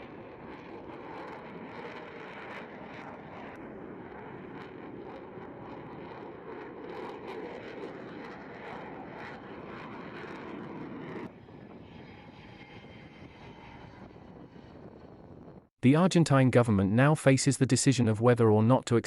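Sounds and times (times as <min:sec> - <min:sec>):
aircraft engine rumble: 0:00.0 - 0:15.7.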